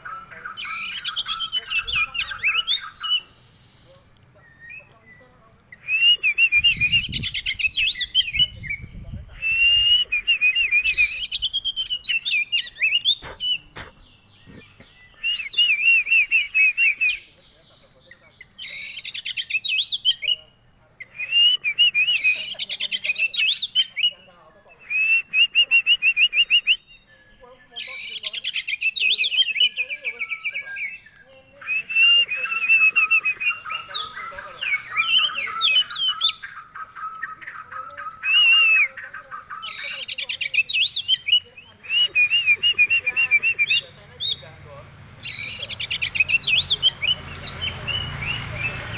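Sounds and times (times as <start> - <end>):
bird singing warbling phrases: 0.0 - 48.9.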